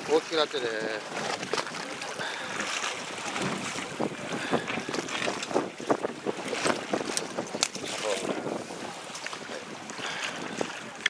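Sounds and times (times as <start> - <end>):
sea washing against boat: 0.0 - 11.0
wind buffeting microphone: 0.8 - 11.0.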